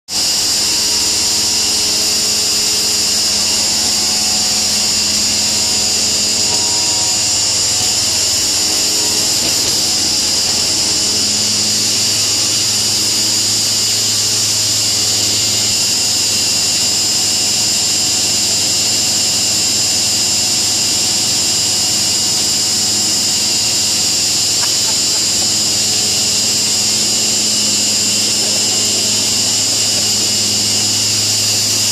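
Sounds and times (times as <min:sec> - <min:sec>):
low machinery hum: 0:00.1 - 0:31.9
machinery blower hissing: 0:00.1 - 0:31.9.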